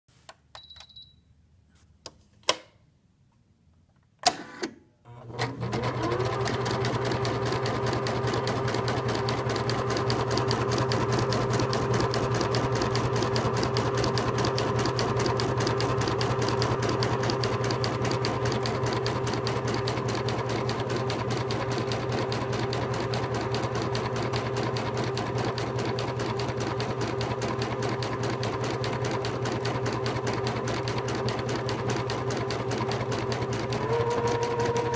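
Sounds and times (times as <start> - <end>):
embroidery machine stitching: 5.1 - 34.9.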